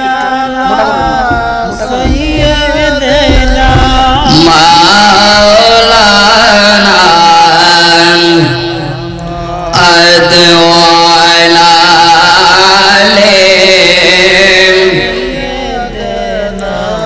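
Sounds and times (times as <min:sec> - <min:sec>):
man chanting through loudspeaker: 0:00.0 - 0:17.0
steady held drone tone: 0:00.0 - 0:17.0.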